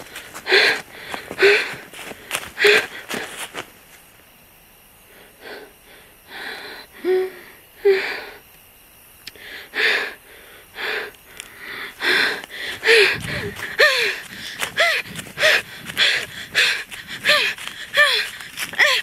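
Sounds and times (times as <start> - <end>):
woman panting heavily: 0.0 - 3.6, 5.1 - 8.5, 9.4 - 19.0.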